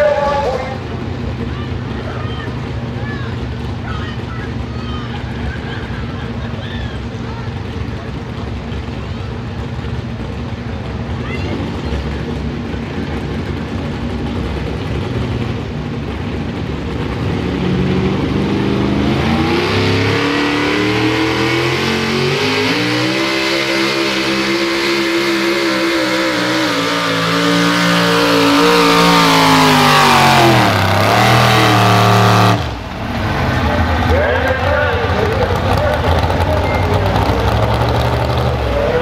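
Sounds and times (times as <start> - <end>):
truck engine revving under load: 0.0 - 39.0.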